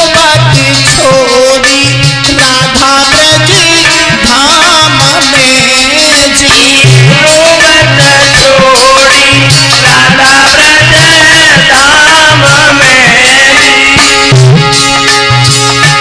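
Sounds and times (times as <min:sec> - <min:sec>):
folk music melody: 0:00.0 - 0:16.0
steady hand drum beat: 0:00.0 - 0:16.0.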